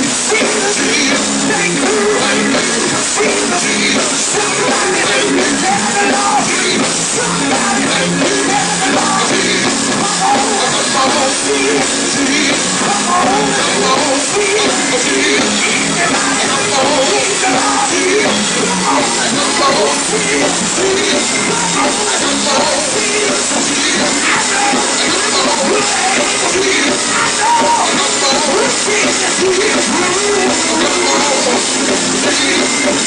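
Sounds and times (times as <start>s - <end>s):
gospel band playing: 0.0s - 33.0s
voices singing and shouting: 0.0s - 33.0s.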